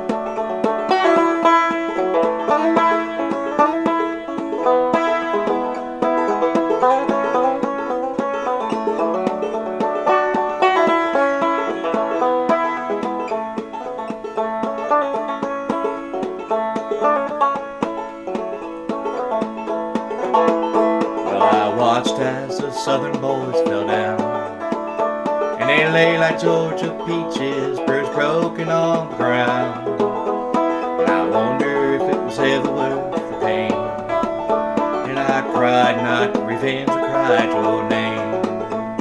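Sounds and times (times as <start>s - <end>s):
banjo playing: 0.0s - 39.0s.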